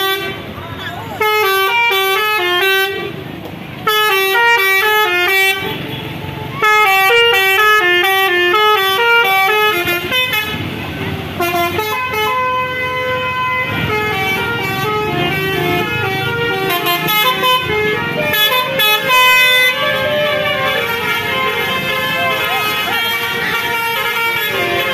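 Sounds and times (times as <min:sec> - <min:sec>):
bus horns playing melodic tunes: 0:00.0 - 0:24.9.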